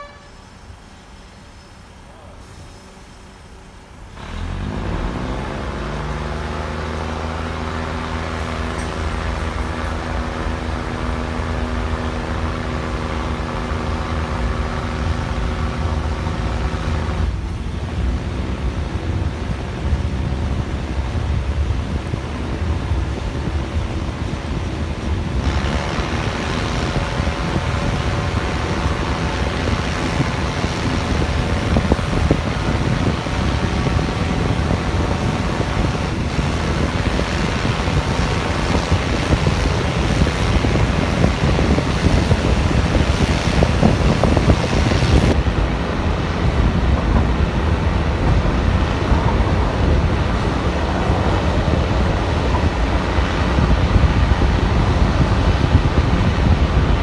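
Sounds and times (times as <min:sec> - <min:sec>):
diesel railcar engine: 0:00.0 - 0:57.0
wheels rumbling on rail: 0:00.0 - 0:57.0.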